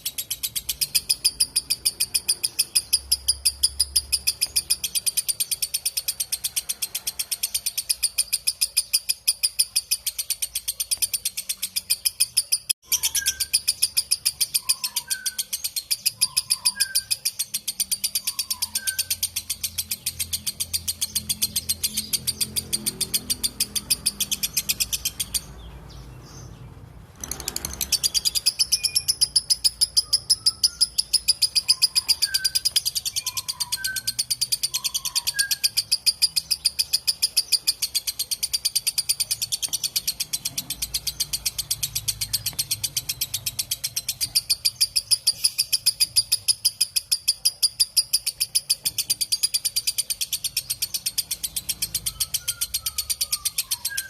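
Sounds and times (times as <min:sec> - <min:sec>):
bird chattering trill: 0:00.0 - 0:54.0.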